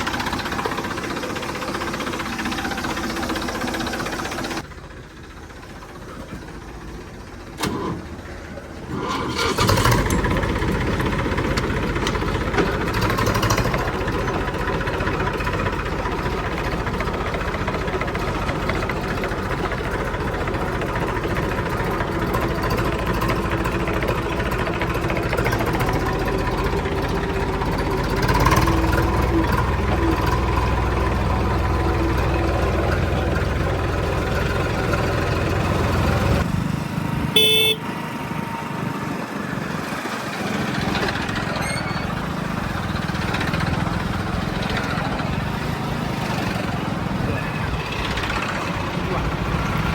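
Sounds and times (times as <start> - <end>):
heavy machine diesel engine: 0.0 - 49.9.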